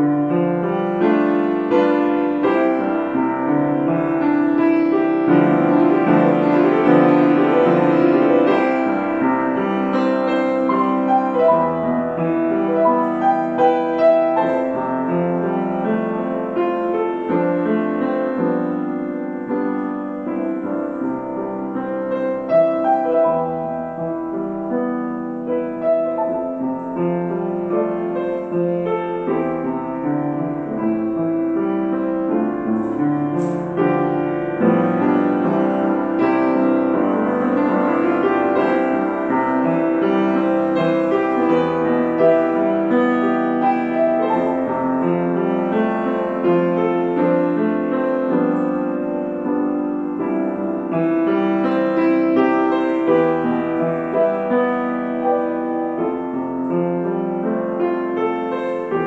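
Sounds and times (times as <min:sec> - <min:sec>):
solo piano melody: 0:00.0 - 0:59.0.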